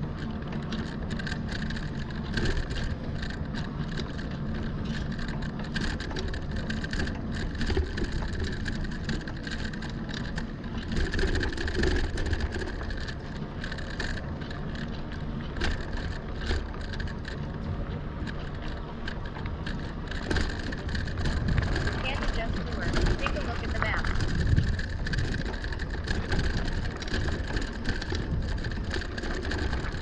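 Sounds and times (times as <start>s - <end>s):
bike tyres rumbling on trail: 0.0s - 30.0s
crackling and rattling over ground: 0.0s - 30.0s.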